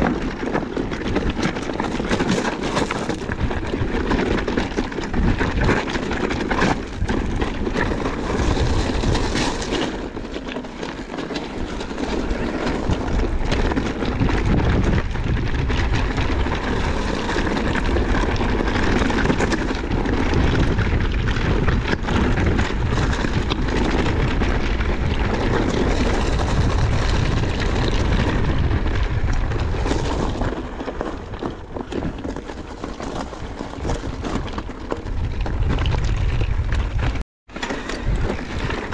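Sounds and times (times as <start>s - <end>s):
bike rattling and knocking: 0.0s - 38.9s
tyres crunching over stones: 0.0s - 38.9s
wind rumble on microphone: 0.0s - 38.9s.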